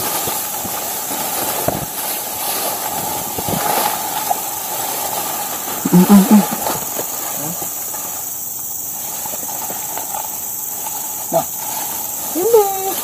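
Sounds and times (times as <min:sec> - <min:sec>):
leaves and stems rustling: 0:00.0 - 0:13.0
steady high hiss: 0:00.0 - 0:13.0.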